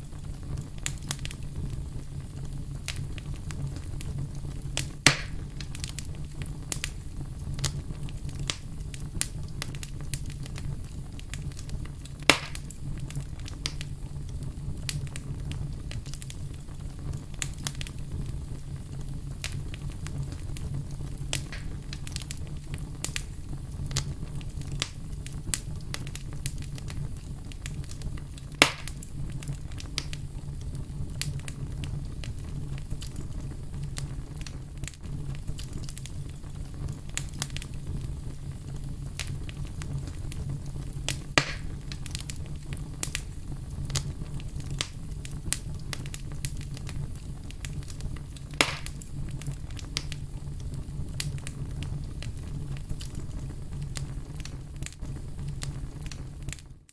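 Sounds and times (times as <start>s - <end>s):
loud fire pops: 0.0s - 56.9s
wood fire crackling: 0.0s - 56.9s.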